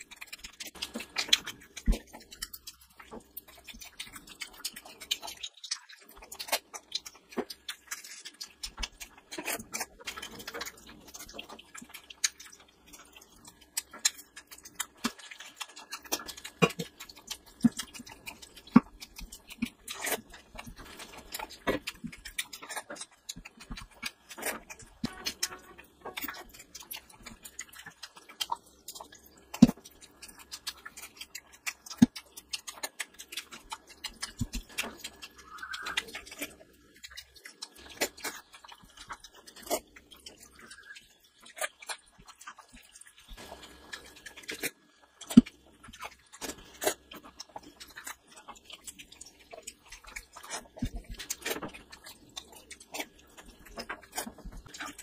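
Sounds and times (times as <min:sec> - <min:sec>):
chewing and lip-smacking: 0:00.0 - 0:55.0.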